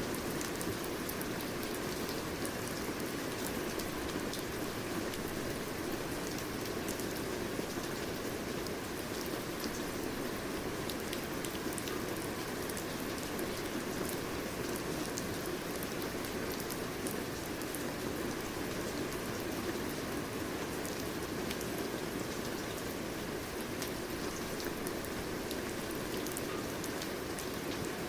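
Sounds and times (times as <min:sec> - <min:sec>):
rain pattering on a surface: 0:00.0 - 0:28.0.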